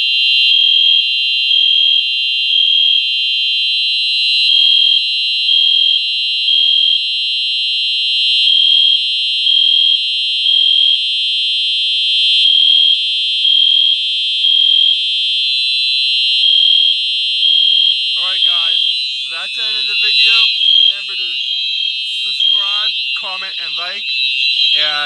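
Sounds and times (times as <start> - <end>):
continuous electronic horn tone: 0.0 - 25.0
pulsing fire alarm horn beeps: 0.0 - 25.0.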